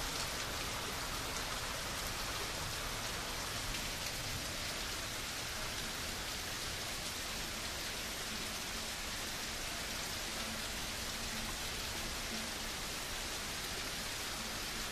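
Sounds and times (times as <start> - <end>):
heavy rain on a wet patio: 0.0 - 14.9.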